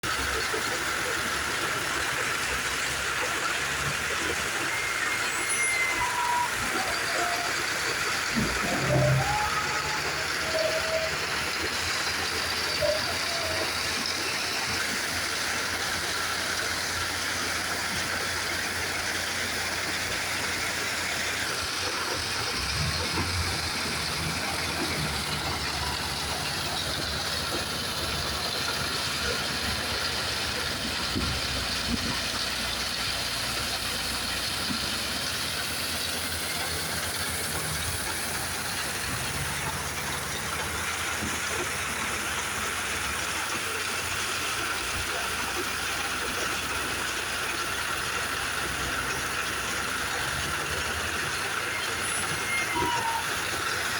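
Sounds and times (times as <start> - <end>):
diesel engine hum: 0.0 - 53.9.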